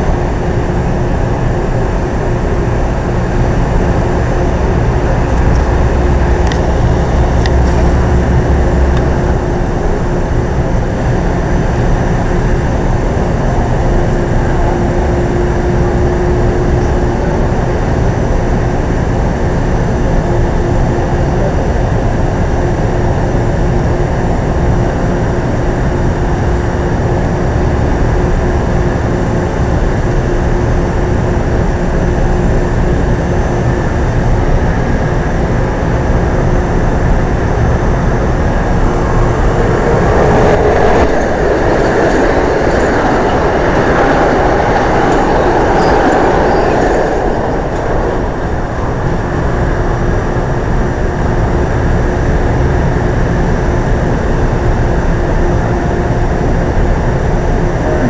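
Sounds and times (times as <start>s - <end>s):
electric train running: 0.0s - 58.0s.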